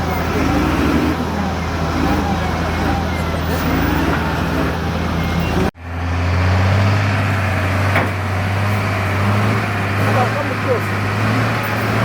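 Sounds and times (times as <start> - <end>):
off-road vehicle engine running: 0.0 - 12.0
outdoor noise: 0.0 - 12.0.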